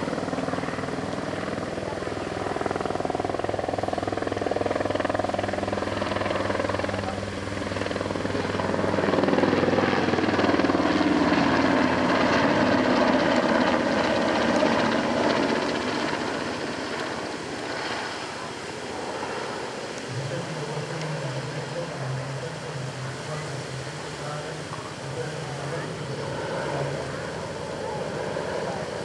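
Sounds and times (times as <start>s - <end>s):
helicopter flying past: 0.0s - 29.0s.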